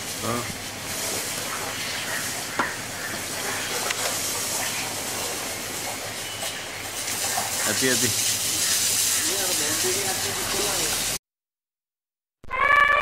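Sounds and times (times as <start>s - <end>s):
water pouring and splashing: 0.0s - 11.2s.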